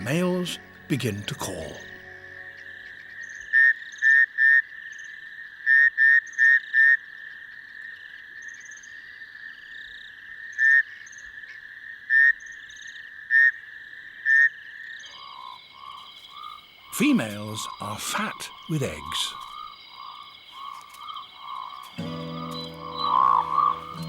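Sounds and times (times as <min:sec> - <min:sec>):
frog background chorus: 0:00.0 - 0:24.0
frogs pulsed chirps: 0:00.0 - 0:24.0.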